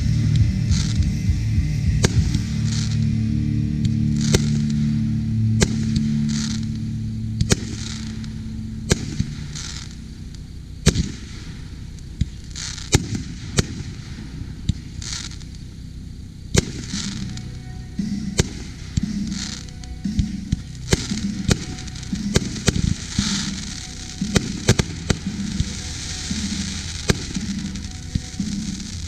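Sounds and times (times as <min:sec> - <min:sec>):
fireworks bursting with bangs: 0:00.0 - 0:03.1, 0:03.8 - 0:29.0
high crackling hiss: 0:00.0 - 0:29.0.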